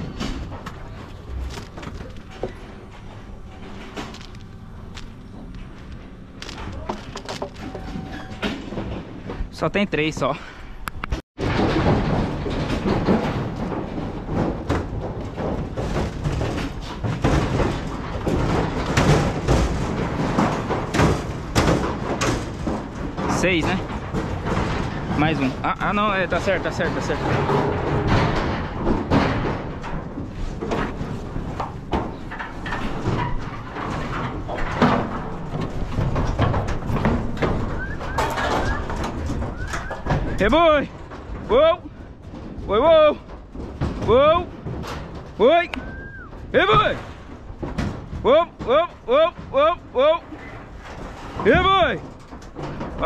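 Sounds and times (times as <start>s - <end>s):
hooves thumping in metal trailer: 0.0s - 53.0s
metal clanks and rattles: 0.0s - 53.0s.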